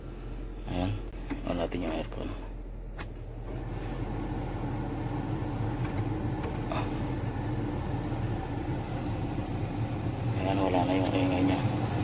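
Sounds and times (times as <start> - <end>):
blower fan humming: 0.0 - 12.0
car engine idling: 0.0 - 12.0.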